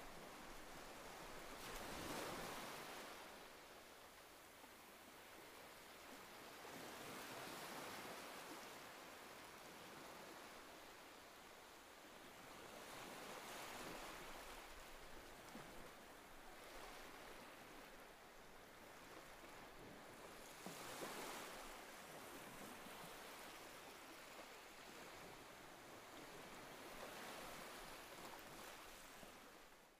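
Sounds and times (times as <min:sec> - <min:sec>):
small waves breaking on beach: 0:00.0 - 0:29.9.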